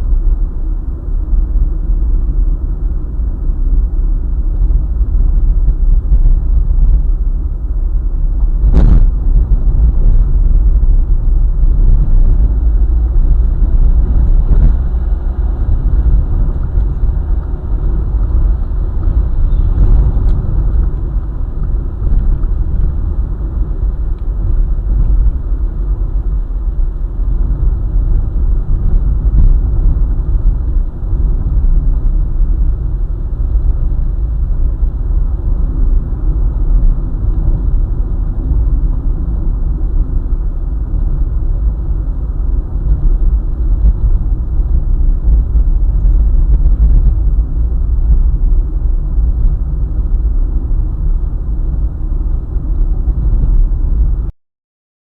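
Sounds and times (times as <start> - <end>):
car engine and road noise: 0.0 - 54.3.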